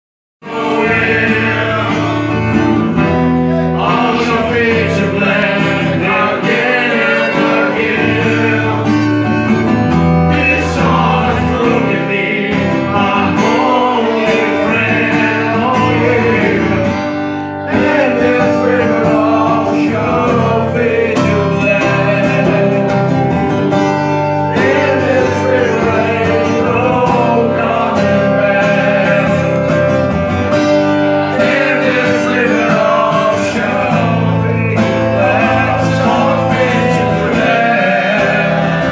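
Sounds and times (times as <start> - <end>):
acoustic guitar chords: 0.4 - 38.9
harmonica melody: 0.4 - 38.9.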